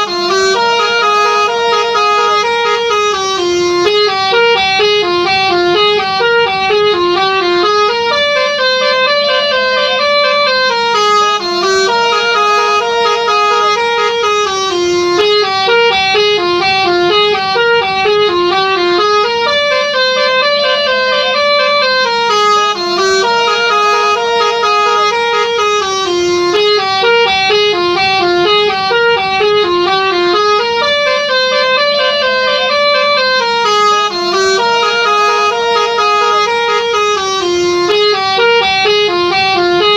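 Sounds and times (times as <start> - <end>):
multi-tone bus horn melody: 0.0 - 39.9.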